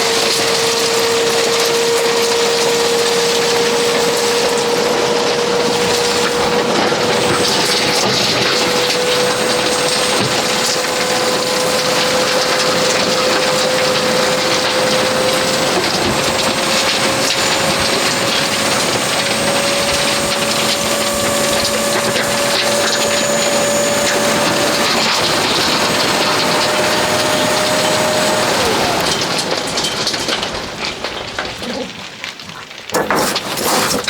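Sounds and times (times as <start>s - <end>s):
hydraulic pump whine: 0.0s - 30.9s.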